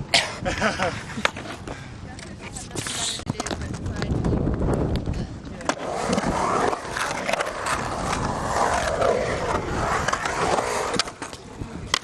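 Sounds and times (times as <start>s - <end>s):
skateboard wheels rolling on concrete: 0.4s - 12.0s.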